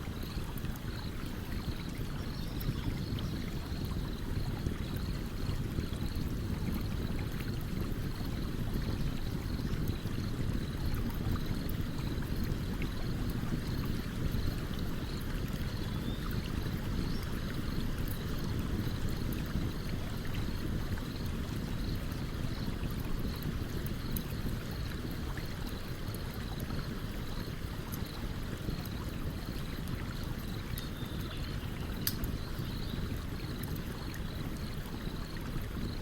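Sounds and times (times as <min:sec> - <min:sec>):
campfire crackles: 0:00.0 - 0:36.0
stream water flowing: 0:00.0 - 0:36.0.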